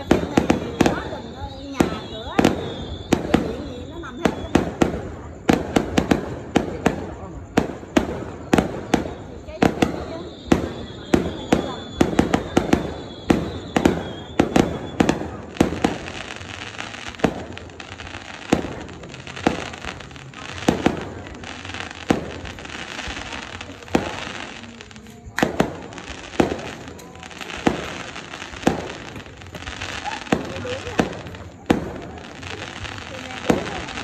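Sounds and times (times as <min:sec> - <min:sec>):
crackling hiss of firework stars: 0:00.0 - 0:34.0.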